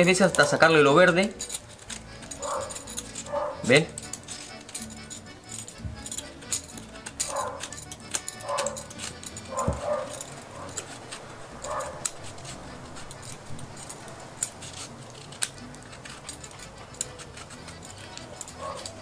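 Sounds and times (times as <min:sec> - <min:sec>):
peeler scraping pumpkin rind: 0:00.0 - 0:19.0
sharp blade clicks: 0:00.0 - 0:19.0.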